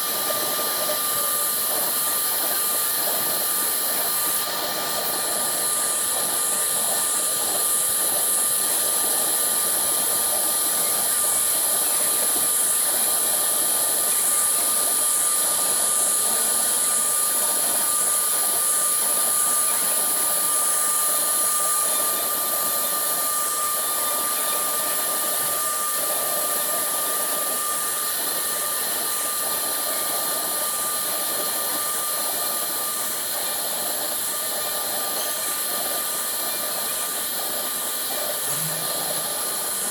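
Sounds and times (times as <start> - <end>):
cnc router spindle whine: 0.0 - 39.9.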